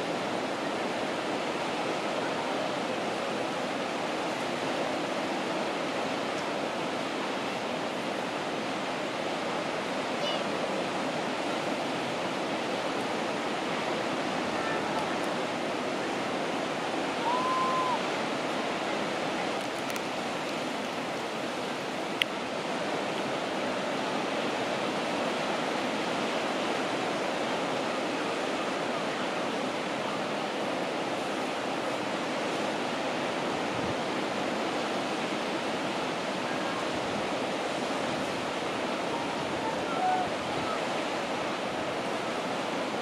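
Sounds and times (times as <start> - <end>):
sea surf breaking: 0.0 - 43.0.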